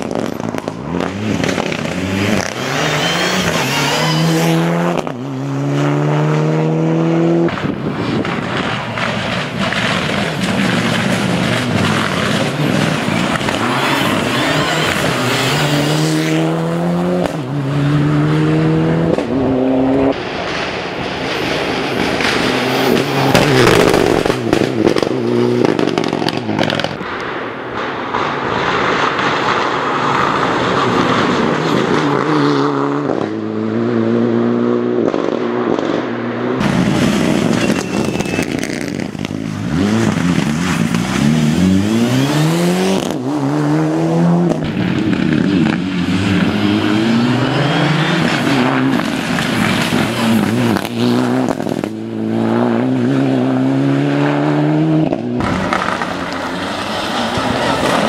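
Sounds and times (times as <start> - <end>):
rally car engine driven hard: 0.0 - 27.0, 28.1 - 58.0.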